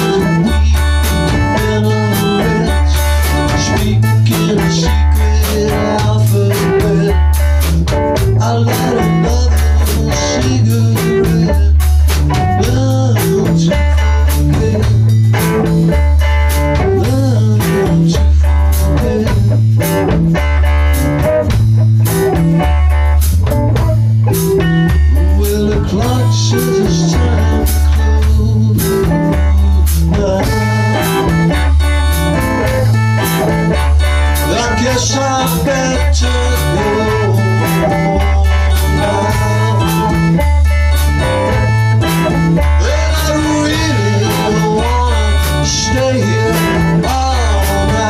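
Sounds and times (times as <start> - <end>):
bass line: 0.0 - 48.0
drum kit: 0.0 - 48.0
electric guitar: 0.0 - 48.0.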